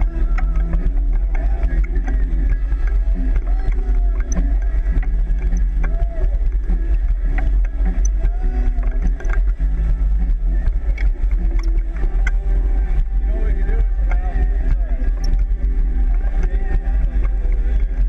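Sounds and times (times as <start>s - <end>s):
muffled voices: 0.0s - 18.0s
water rushing along hull: 0.0s - 18.0s.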